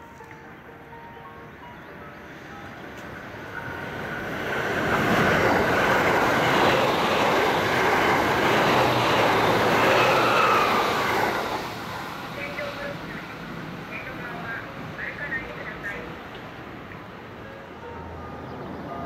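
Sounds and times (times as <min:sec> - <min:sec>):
electric train passing at speed: 0:00.0 - 0:19.0
wheels rushing on rail: 0:02.2 - 0:19.0.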